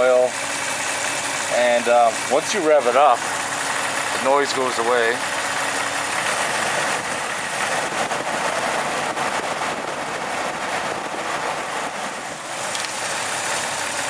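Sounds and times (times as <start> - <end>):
car engine running at raised revs: 0.0 - 14.0.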